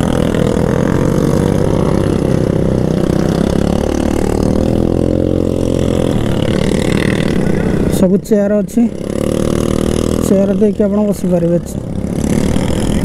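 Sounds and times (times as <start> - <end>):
quad bike engine idling and revving: 0.0 - 13.0.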